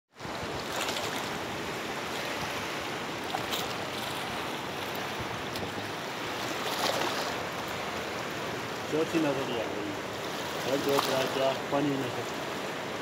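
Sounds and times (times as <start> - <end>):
river water flowing past stones: 0.2 - 13.0.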